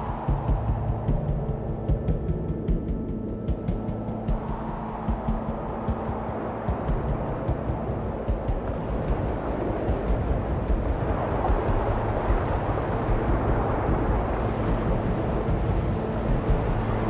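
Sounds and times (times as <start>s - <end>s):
constant wash of noise: 0.0s - 17.0s
low engine hum: 0.0s - 17.0s.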